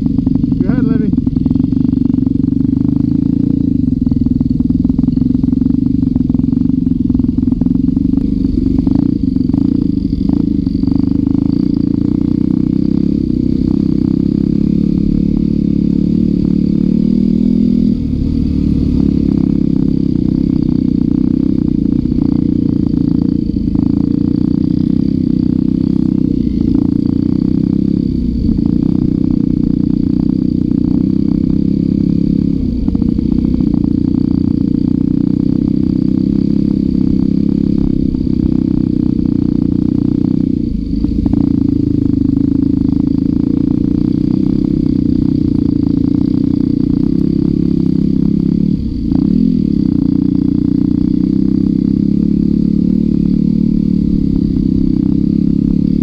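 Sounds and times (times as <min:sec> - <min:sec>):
dirt bike engine under throttle: 0:00.0 - 0:56.0.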